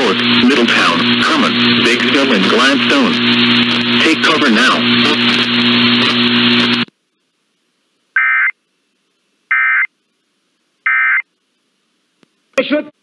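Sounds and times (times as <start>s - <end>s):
loud hiss with low hum: 0.0s - 13.0s.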